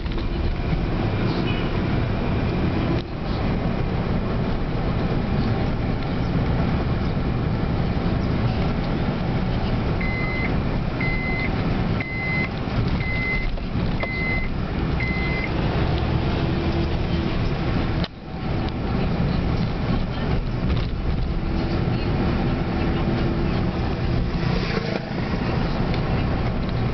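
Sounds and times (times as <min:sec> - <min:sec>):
engine and tyre rumble: 0:00.0 - 0:26.9.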